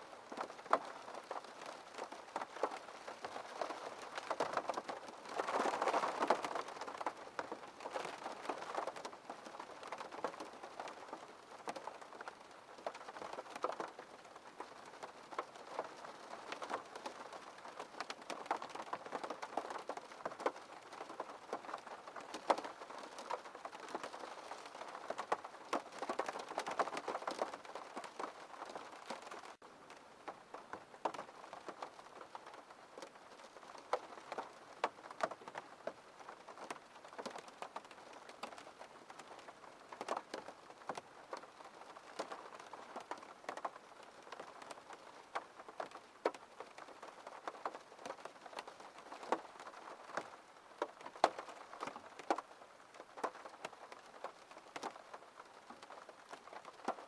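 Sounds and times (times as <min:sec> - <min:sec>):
rain tapping on window: 0:00.0 - 0:57.0.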